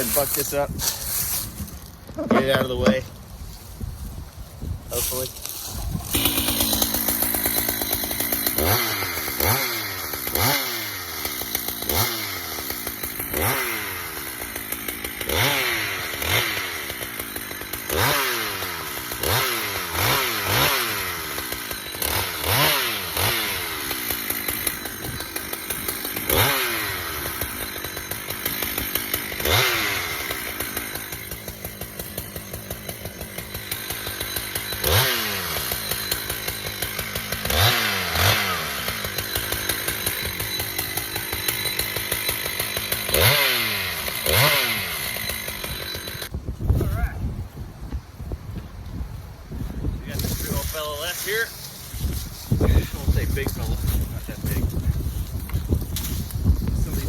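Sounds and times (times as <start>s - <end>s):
chainsaw revving through wood: 0.0s - 1.4s, 5.0s - 46.3s, 50.0s - 57.0s.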